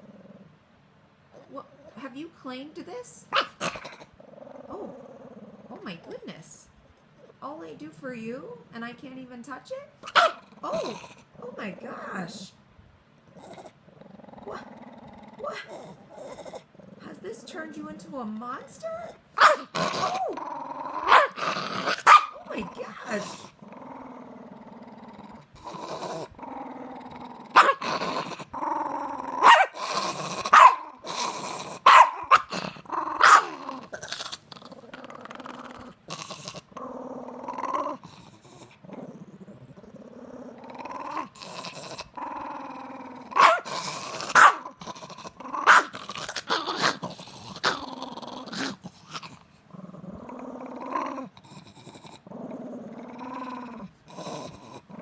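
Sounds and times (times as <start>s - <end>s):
small dog growling: 0.0s - 0.6s, 1.3s - 2.1s, 3.3s - 7.5s, 10.0s - 12.6s, 13.2s - 55.0s.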